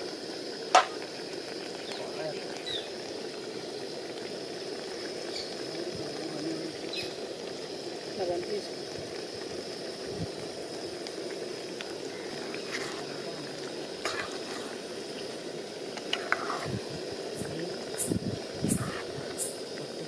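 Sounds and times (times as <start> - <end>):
curry sizzling and bubbling in pot: 0.0 - 20.0.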